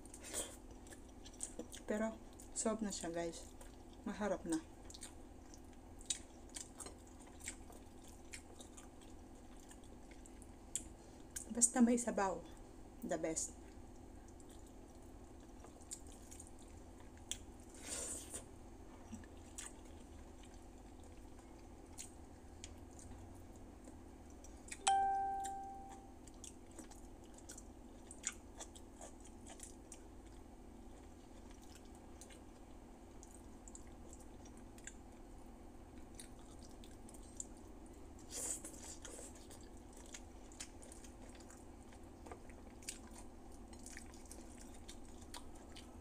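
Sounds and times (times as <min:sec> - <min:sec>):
soft chewing: 0:00.0 - 0:11.8, 0:12.4 - 0:46.0.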